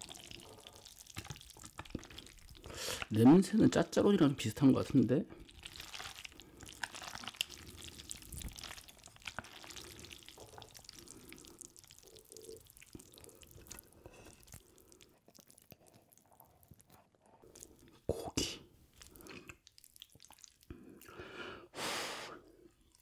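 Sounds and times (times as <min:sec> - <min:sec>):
wet sticky noodle sounds: 0:00.0 - 0:03.2, 0:04.6 - 0:21.3.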